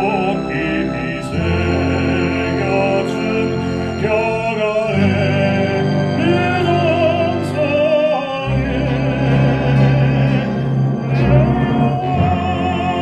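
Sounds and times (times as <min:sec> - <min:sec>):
instrumental accompaniment: 0:00.0 - 0:13.0
man singing operatically: 0:00.0 - 0:13.0.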